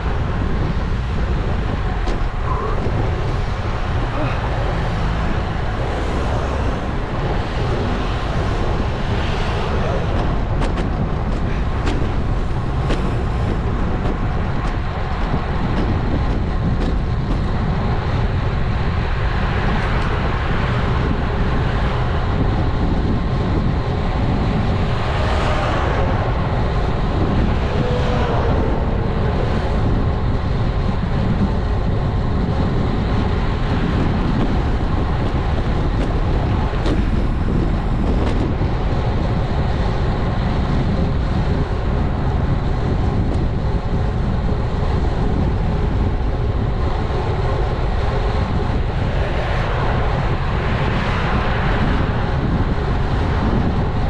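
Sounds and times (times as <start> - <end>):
road noise: 0.0 - 54.0
wind rushing on microphone: 0.0 - 54.0.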